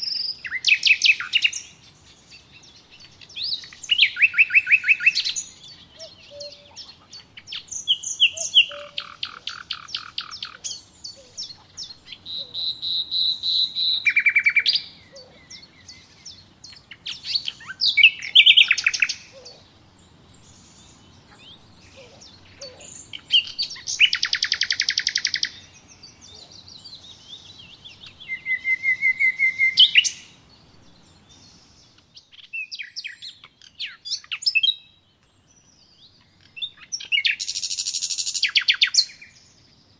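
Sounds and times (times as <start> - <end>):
bird chirps and calls: 0.0 - 39.8
songbirds trilling: 0.0 - 39.9.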